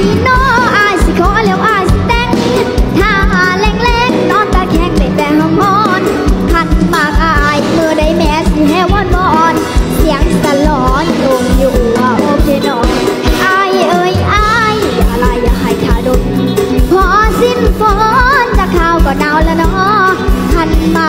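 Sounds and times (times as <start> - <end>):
girl singing: 0.0 - 21.0
live band with bass beat: 0.0 - 21.0.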